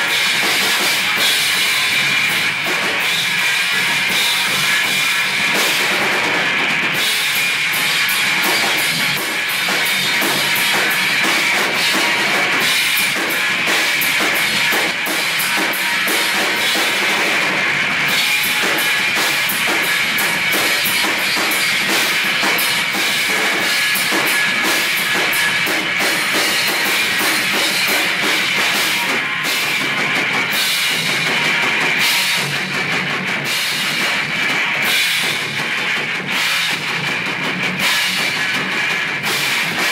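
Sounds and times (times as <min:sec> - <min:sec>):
drum kit cymbals and drums: 0:00.0 - 0:39.9
electric guitars: 0:00.0 - 0:39.9
live rock band playing: 0:00.0 - 0:39.9.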